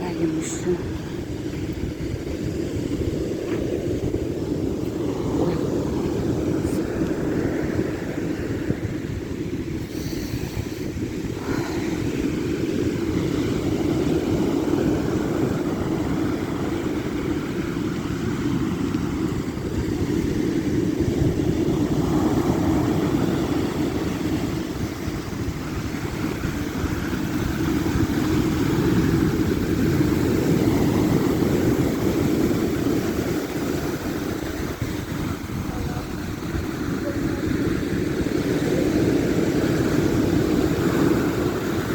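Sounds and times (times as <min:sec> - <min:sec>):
sea surf washing onto beach: 0:00.0 - 0:41.9
wind blowing on microphone: 0:00.0 - 0:41.9.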